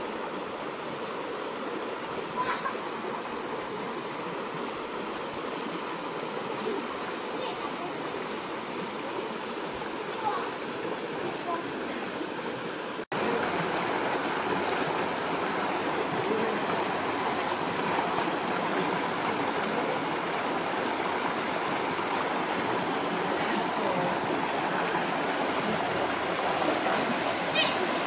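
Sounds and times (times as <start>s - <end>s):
stream water flowing over rocks: 0.0s - 28.0s.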